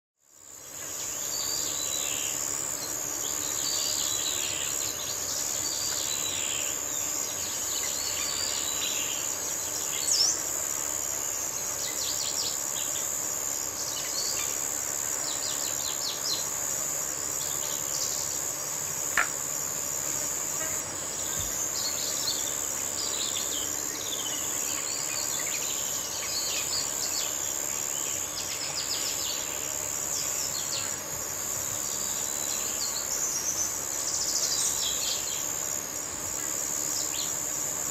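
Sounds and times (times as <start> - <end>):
high-pitched insect drone: 0.2 - 37.9.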